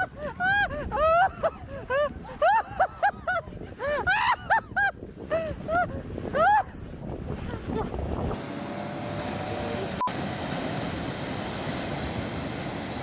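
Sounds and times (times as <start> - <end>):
wind and surf rushing: 0.0 - 13.0.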